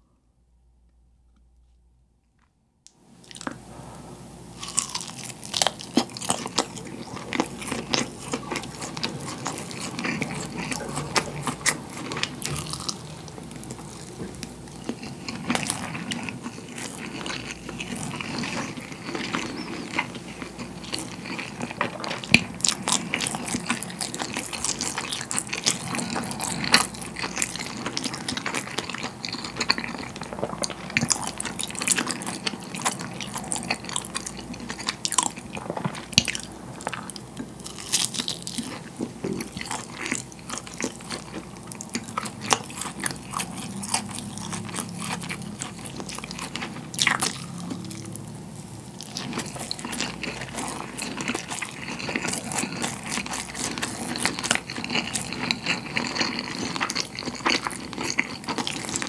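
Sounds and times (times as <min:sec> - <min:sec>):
person chewing with mouth sounds: 0:04.5 - 0:59.0.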